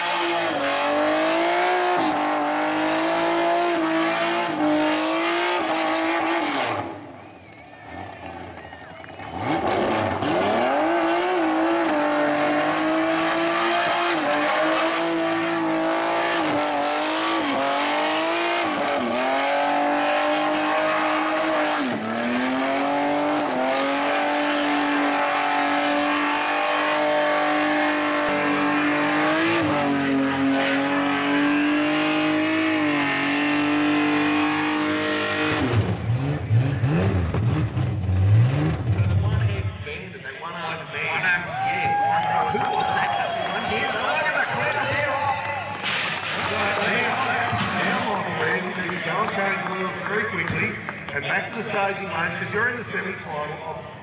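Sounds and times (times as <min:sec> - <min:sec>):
car engine at high revs: 0:00.0 - 0:39.7, 0:45.7 - 0:54.0.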